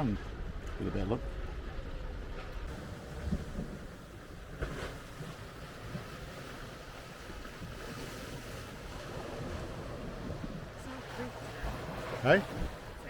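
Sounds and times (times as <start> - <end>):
sea waves on shore: 0.0 - 13.0
wind buffeting microphone: 0.0 - 13.0.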